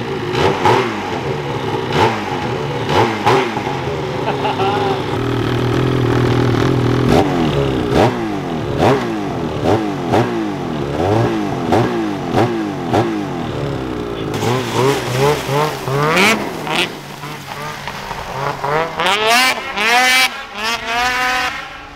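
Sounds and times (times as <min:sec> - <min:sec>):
snowmobile engine idling and revving: 0:00.0 - 0:21.9.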